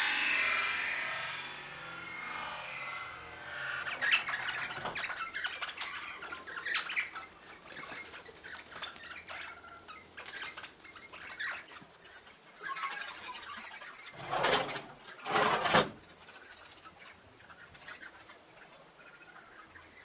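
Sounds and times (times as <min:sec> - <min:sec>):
birds squawking and chirping: 0:02.2 - 0:20.0.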